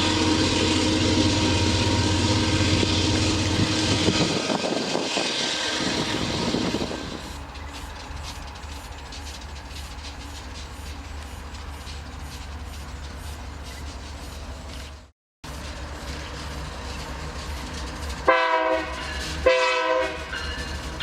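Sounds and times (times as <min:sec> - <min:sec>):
diesel locomotive running: 0:00.0 - 0:21.0
train wheels clicking over rail joints: 0:00.0 - 0:21.0.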